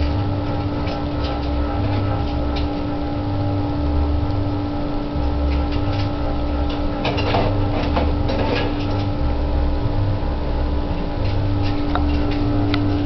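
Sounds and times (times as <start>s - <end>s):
irregular low rumble: 0.0s - 13.0s
steady mechanical hum: 0.0s - 13.0s.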